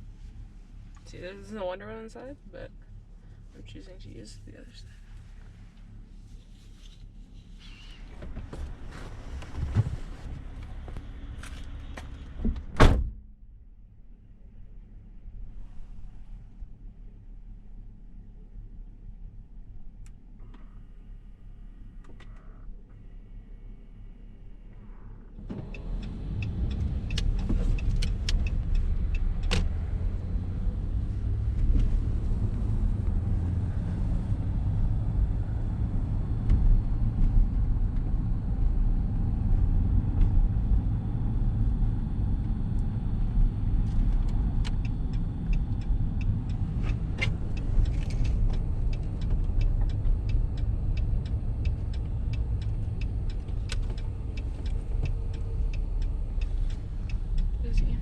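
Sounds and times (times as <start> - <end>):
truck engine and road noise: 0.0 - 13.0, 13.8 - 58.0.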